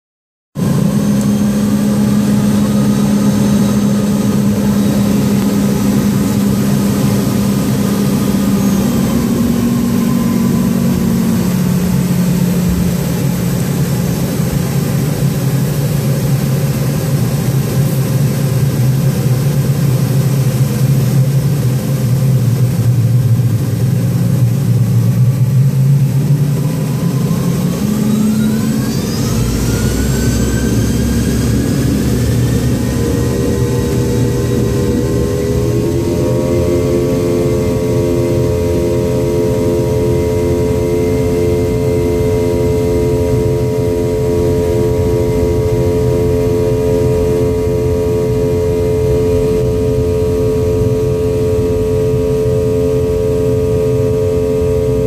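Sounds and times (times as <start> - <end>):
jet engines humming in cabin: 0.6 - 55.0.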